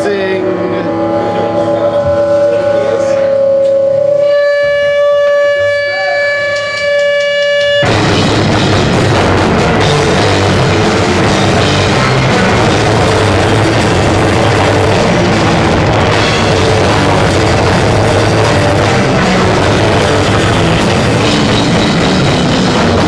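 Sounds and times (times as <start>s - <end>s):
distorted held guitar tone: 0.0s - 23.0s
distorted live rock band: 0.0s - 23.0s.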